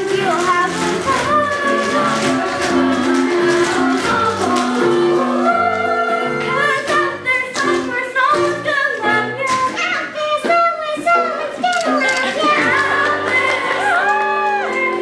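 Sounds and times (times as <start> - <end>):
voices singing: 0.0 - 15.0.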